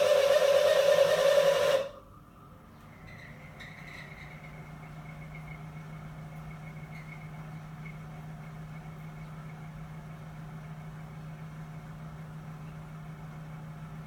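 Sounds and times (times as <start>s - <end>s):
faint high whine: 0.0s - 14.0s
water heater low hum: 0.0s - 14.0s.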